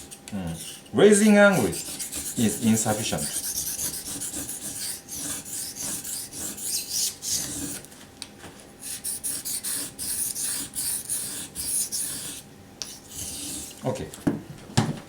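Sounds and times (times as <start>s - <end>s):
knife scraping on whetstone: 0.0s - 0.9s, 1.5s - 7.8s, 8.9s - 13.8s.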